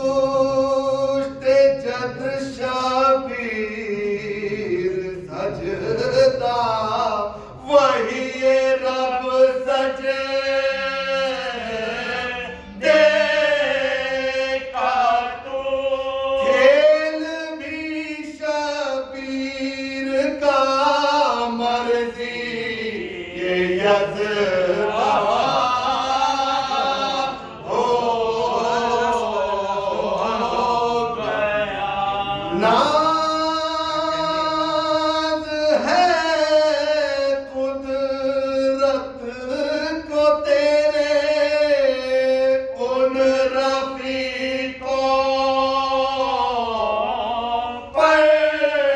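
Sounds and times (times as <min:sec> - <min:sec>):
man chanting into a microphone: 0:00.0 - 0:48.9
men chanting together: 0:00.0 - 0:48.9.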